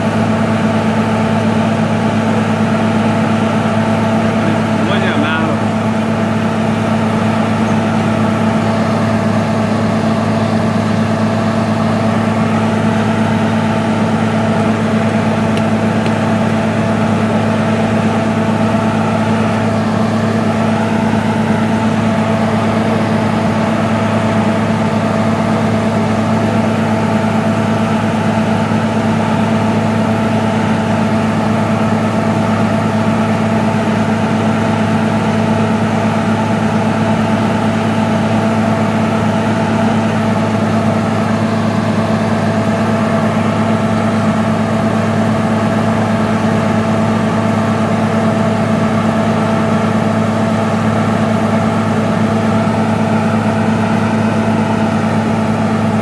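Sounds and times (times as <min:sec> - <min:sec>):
drilling rig engine drone: 0:00.0 - 0:56.0.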